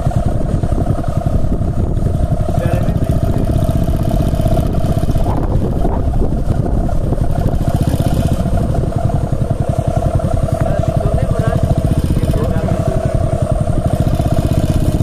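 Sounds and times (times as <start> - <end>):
steady droning tone: 0.0 - 15.0
wind buffeting microphone: 0.0 - 15.0.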